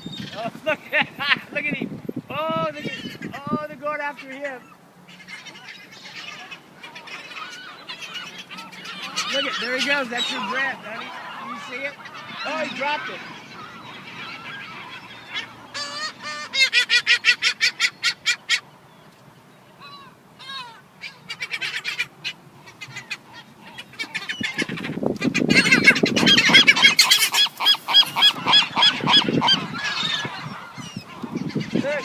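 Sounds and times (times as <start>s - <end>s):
seagulls calling: 0.0s - 32.0s.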